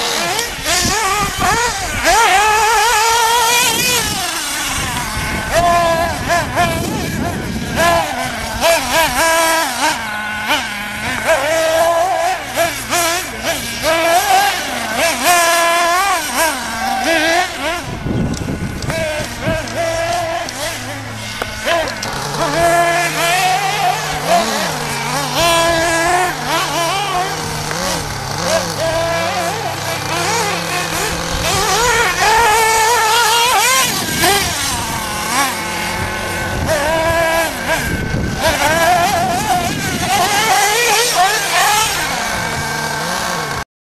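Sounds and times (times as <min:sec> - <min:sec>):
rc truck motor revving: 0:00.0 - 0:43.7.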